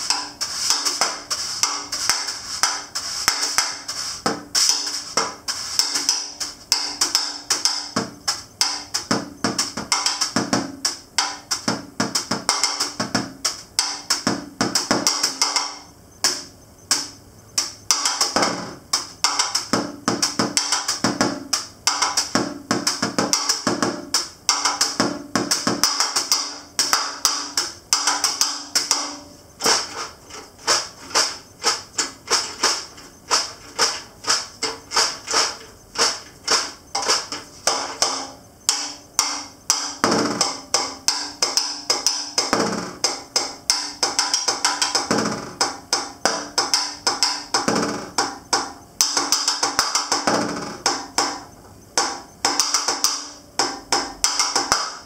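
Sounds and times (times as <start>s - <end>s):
snare drum solo with sticks: 0.0s - 55.0s.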